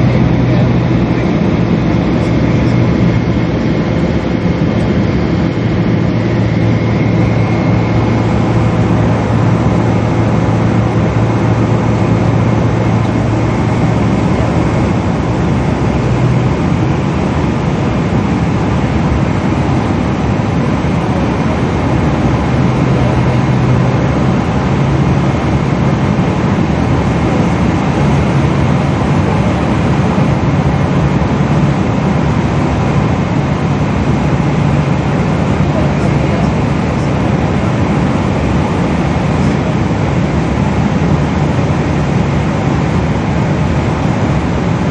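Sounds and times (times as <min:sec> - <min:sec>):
jet engines and airflow rushing: 0:00.0 - 0:44.9
low hum: 0:00.0 - 0:44.9.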